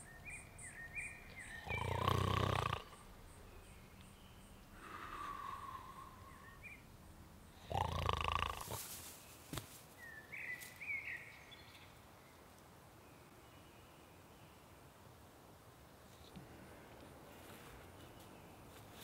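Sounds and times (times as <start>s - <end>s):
woodland background: 0.0s - 19.0s.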